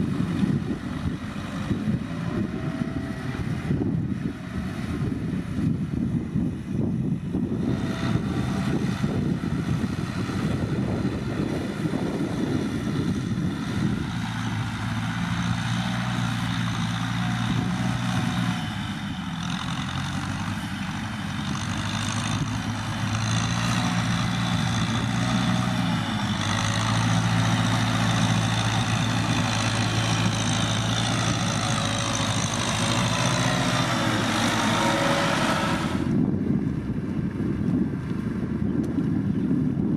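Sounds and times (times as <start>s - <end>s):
rough wind noise: 0.0s - 39.9s
tractor diesel engine running: 0.0s - 39.9s.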